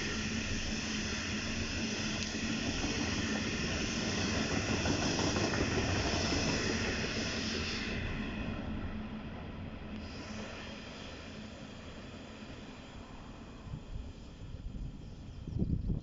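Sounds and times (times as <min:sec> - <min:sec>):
train rail rumble and hiss: 0:00.0 - 0:16.0.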